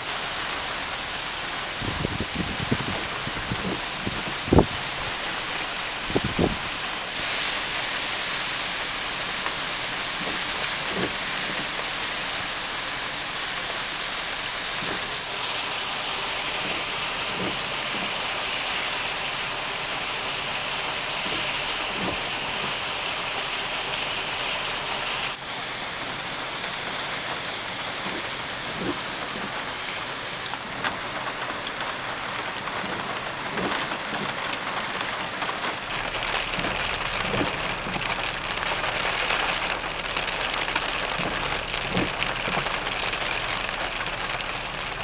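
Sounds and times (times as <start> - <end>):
heavy rain falling: 0.0 - 45.0
raindrops tapping: 0.0 - 45.0.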